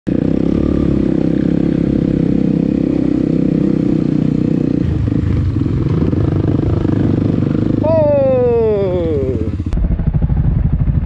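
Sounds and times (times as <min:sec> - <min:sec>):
dirt bike engine running: 0:00.1 - 0:11.0.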